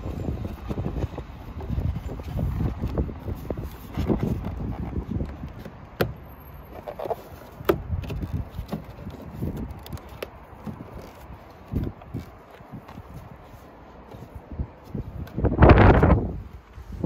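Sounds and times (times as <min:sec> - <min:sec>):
plastic and rubber handling noises: 0:00.0 - 0:17.0
wind rumble on microphone: 0:00.0 - 0:17.0.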